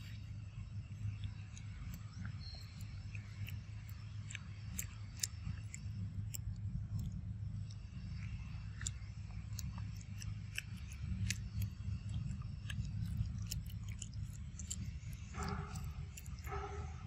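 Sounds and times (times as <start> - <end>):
monkeys cracking peanut shells: 1.1 - 17.0.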